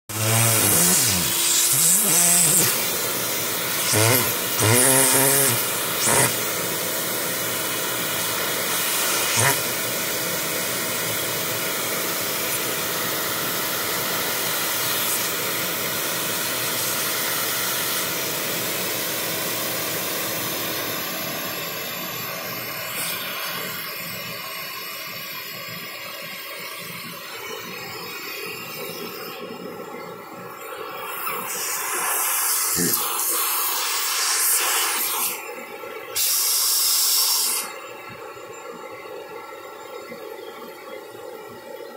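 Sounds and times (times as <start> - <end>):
vacuum cleaner running: 0.1 - 40.4.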